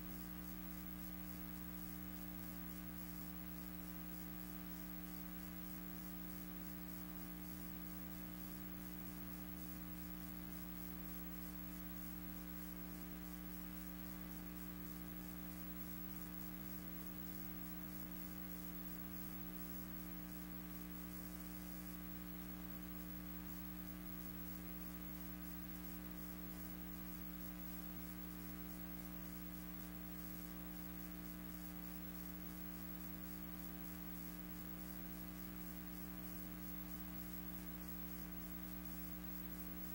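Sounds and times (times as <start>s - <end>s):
electrical hum with tones: 0.0s - 39.9s.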